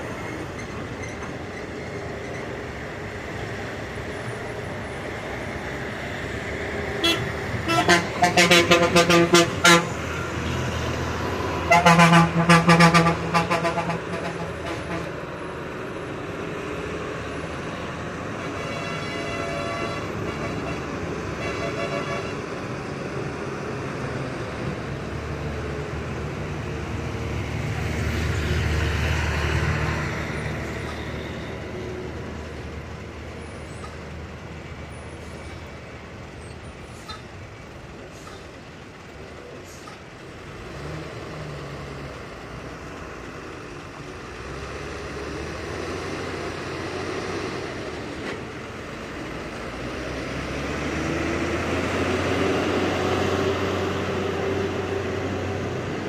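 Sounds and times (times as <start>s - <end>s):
diesel lorry engine under load: 0.0s - 56.0s.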